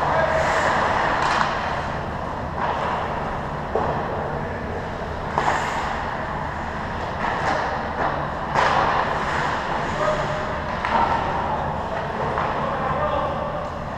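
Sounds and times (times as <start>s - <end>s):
arena hum: 0.0s - 13.9s.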